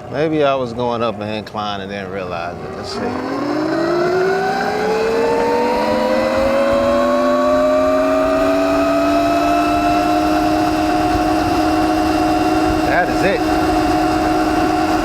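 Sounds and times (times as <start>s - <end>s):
electric motor whining: 0.9s - 15.0s
wind rushing over microphone: 2.1s - 15.0s.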